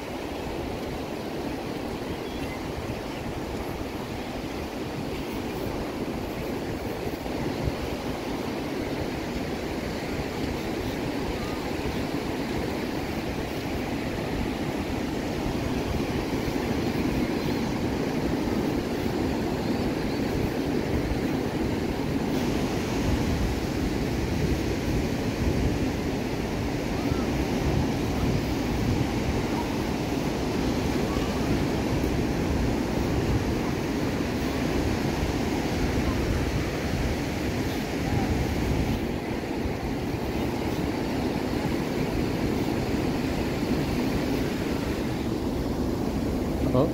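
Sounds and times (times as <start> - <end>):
ocean surf breaking on beach: 0.0 - 46.9
wind: 0.0 - 46.9.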